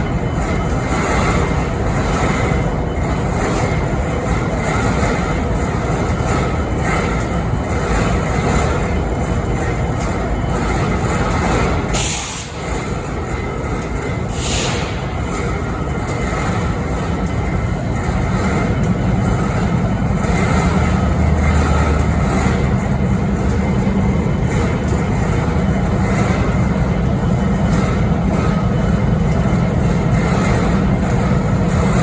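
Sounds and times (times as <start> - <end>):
diesel locomotive idling: 0.0 - 32.0.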